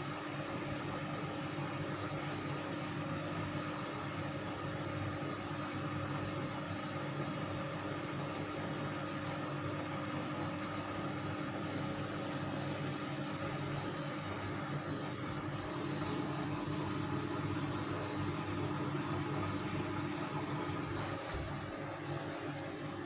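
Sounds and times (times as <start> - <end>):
washing machine running: 0.0 - 23.0.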